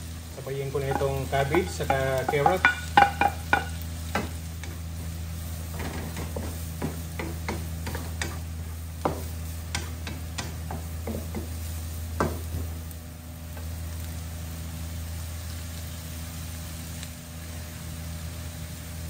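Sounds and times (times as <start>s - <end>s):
light sizzle of frying: 0.0s - 19.0s
steady low hum: 0.0s - 19.0s.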